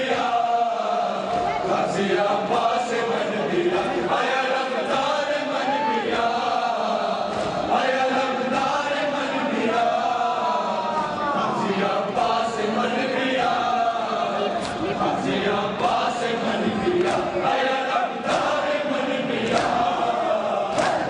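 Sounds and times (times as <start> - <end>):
crowd of men chanting a lament: 0.0 - 21.0.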